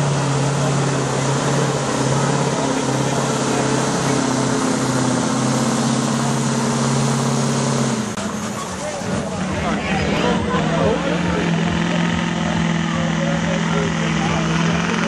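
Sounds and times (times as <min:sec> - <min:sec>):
diesel truck engine under load: 0:00.0 - 0:15.0
higher engine tone: 0:00.0 - 0:15.0.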